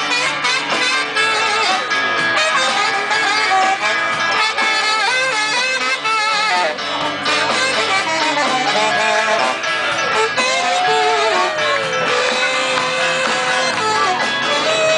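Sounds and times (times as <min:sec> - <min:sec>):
electric guitar bending notes: 0:00.0 - 0:14.9
live band playing: 0:00.0 - 0:14.9.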